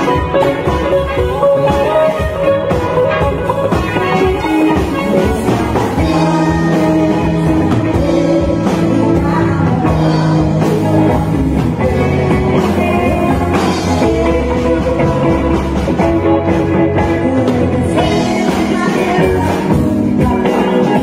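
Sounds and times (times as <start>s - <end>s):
drum beat: 0.0s - 21.0s
electric guitar: 0.0s - 21.0s
person singing: 0.0s - 21.0s.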